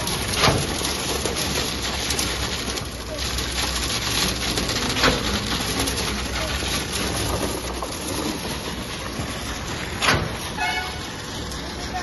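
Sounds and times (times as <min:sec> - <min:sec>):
concrete pump running: 0:00.0 - 0:12.0.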